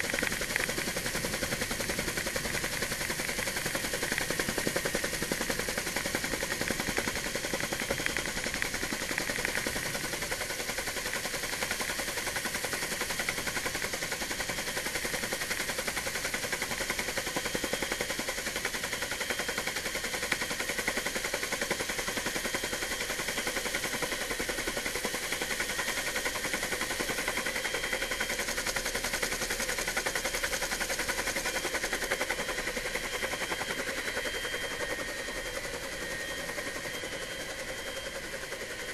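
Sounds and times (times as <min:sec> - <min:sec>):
helicopter rotor chop: 0:00.0 - 0:38.9
turbine engine whine: 0:00.0 - 0:38.9.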